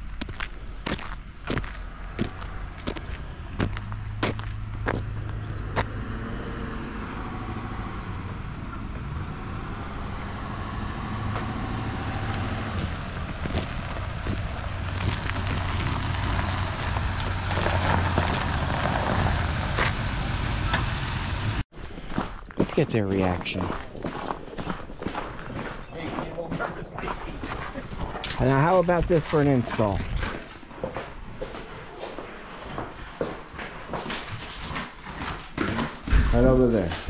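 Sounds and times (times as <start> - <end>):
truck engine and tyre noise: 0.0 - 37.0.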